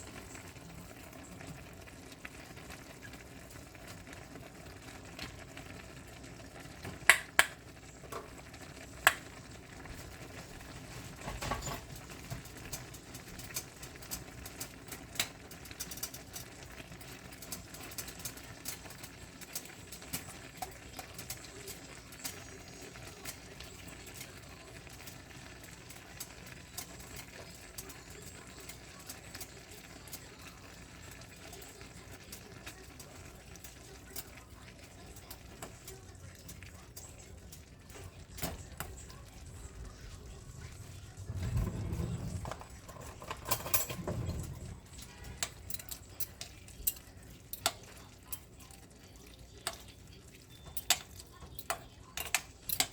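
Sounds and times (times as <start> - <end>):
kitchen utensils clinking: 6.8 - 9.4, 10.1 - 52.9.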